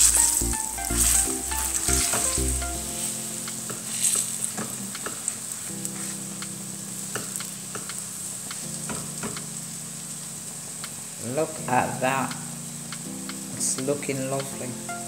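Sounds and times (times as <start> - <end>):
chicken patties sizzling in oil: 0.0 - 15.0.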